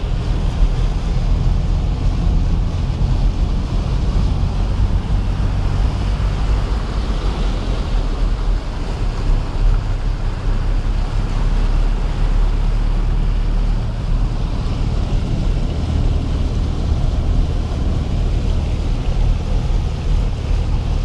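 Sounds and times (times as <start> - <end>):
low engine drone: 0.0 - 21.0
water rushing and sloshing: 0.0 - 21.0.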